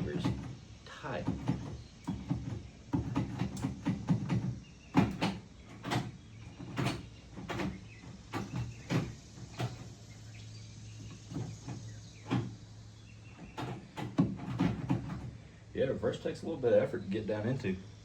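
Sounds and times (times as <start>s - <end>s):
gear shifter clunking and clicking: 0.0s - 10.0s, 10.8s - 15.4s
low steady hum: 0.0s - 18.0s.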